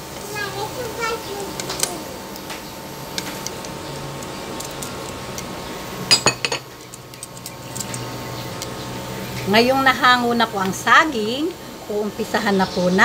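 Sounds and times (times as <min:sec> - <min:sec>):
oil sizzling: 0:00.0 - 0:11.6.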